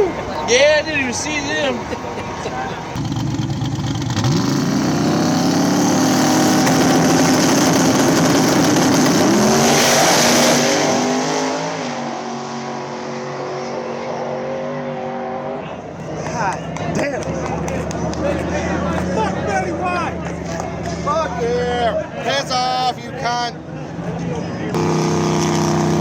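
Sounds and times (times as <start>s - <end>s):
drag race car engines: 0.0s - 26.0s.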